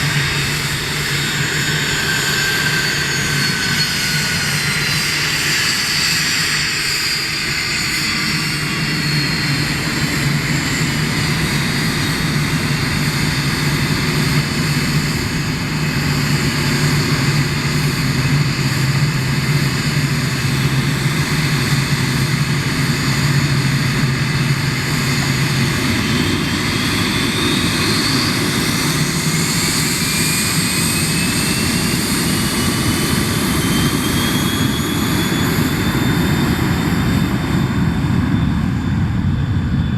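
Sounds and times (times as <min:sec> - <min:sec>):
jet engines roaring: 0:00.0 - 0:39.9
rising engine whine: 0:00.0 - 0:39.9.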